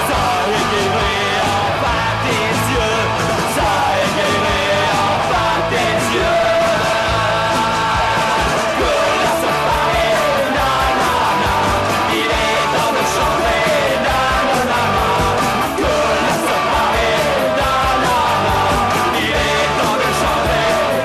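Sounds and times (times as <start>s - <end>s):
punk rock song: 0.0s - 21.0s.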